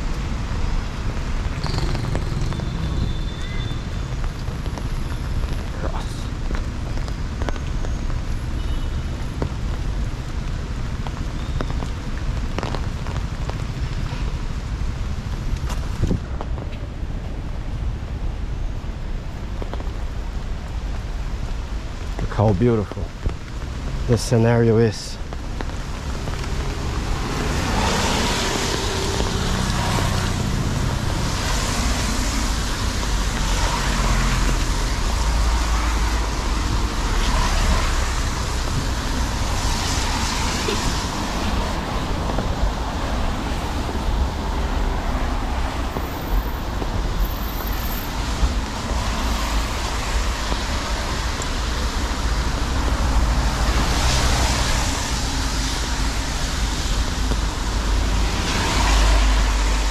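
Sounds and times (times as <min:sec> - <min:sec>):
cars and buses passing: 0:00.0 - 0:59.9
tyres hissing on wet road: 0:00.0 - 0:59.9.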